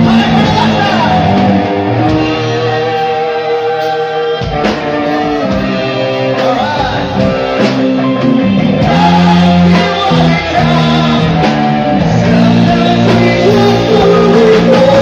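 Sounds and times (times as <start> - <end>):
electric guitar: 0.0 - 15.0
live rock band playing: 0.0 - 15.0
person singing: 0.0 - 15.0.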